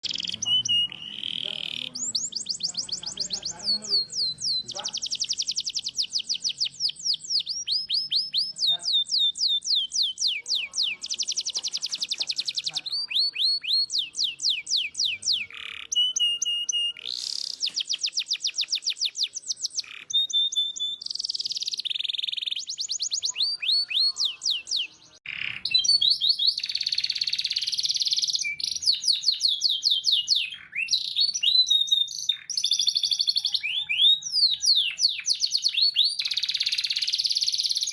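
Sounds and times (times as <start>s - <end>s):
canary singing: 0.0s - 37.9s.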